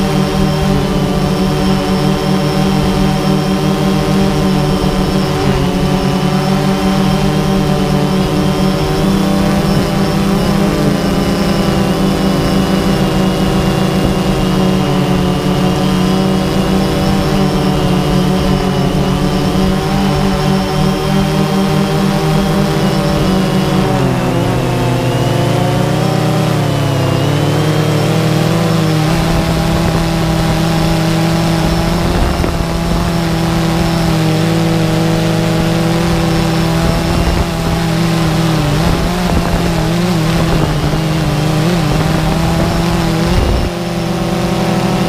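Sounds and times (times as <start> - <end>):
drone motors buzzing: 0.0 - 45.0.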